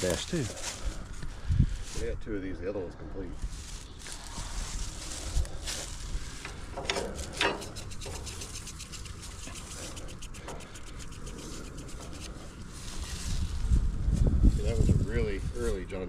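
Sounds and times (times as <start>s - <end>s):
footsteps through dry grass: 0.0s - 2.2s, 3.2s - 15.9s
wind rumble on microphone: 0.5s - 16.0s.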